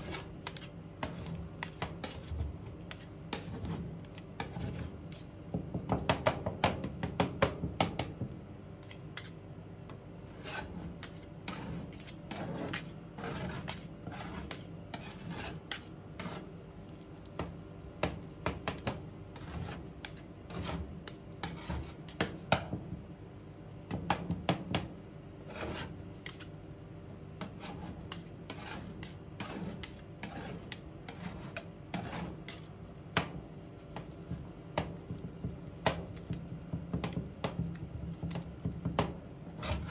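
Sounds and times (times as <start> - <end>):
metal spatulas tapping and scraping: 0.0 - 9.4, 10.4 - 16.4, 17.3 - 22.9, 25.5 - 26.6, 27.4 - 39.9.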